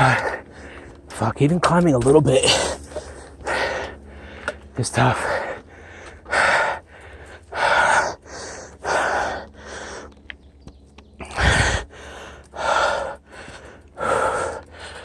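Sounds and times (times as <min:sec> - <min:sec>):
hard rhythmic breathing: 0:00.0 - 0:15.0.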